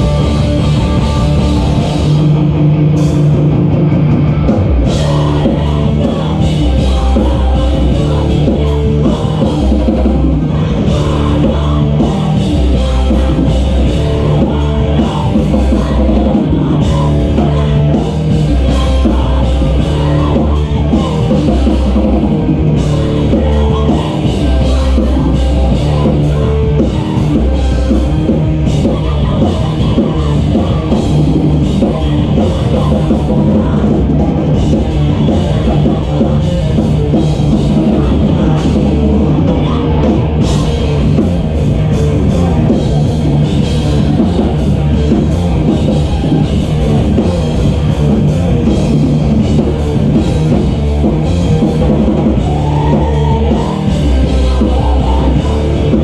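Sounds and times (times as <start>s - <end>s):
drum kit: 0.0s - 56.0s
guitar: 0.0s - 56.0s
live rock band playing: 0.0s - 56.0s.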